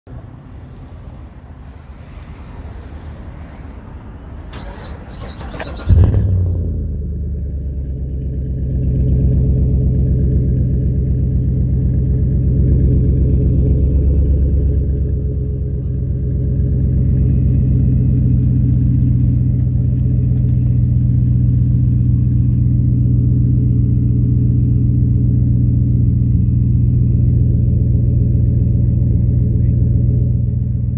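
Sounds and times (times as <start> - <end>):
car engine starting and idling: 4.2 - 30.9.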